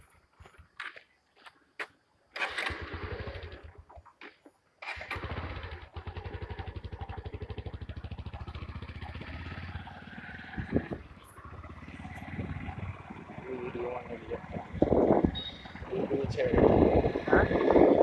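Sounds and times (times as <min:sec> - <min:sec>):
small engine running: 0:02.4 - 0:03.9, 0:04.8 - 0:18.0.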